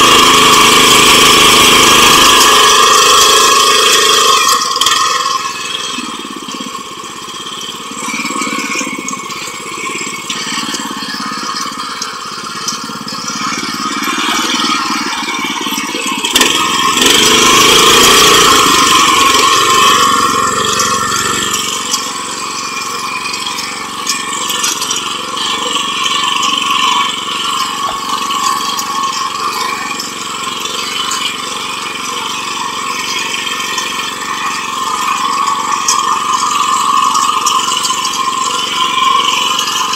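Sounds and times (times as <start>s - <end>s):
rotary tiller engine running: 0.0s - 39.9s.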